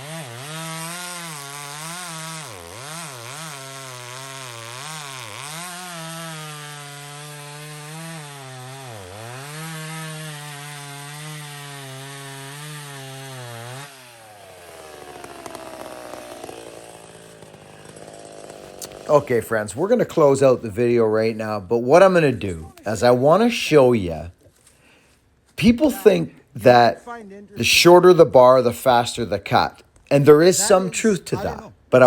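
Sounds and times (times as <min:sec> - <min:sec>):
chainsaw cutting wood: 0:00.0 - 0:23.5, 0:27.9 - 0:32.0.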